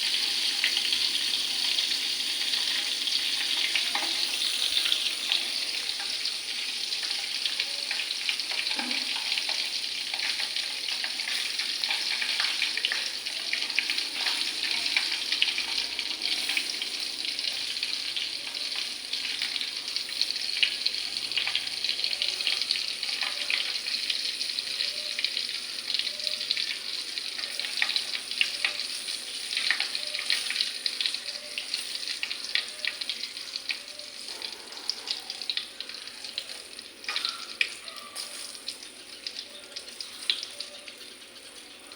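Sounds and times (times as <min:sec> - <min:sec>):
fish frying in hot oil: 0:00.0 - 0:41.9.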